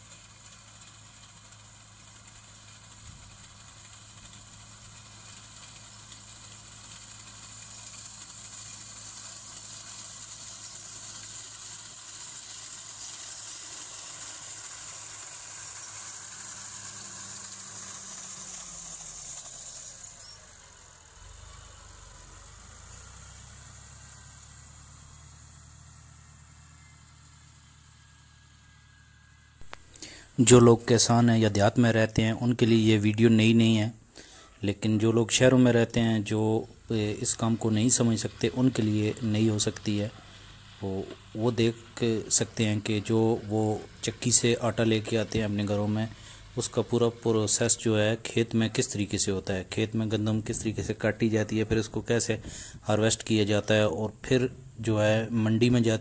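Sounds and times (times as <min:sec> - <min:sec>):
reaper cutting wheat hiss: 0:00.0 - 0:56.0
tractor diesel engine: 0:00.0 - 0:56.0.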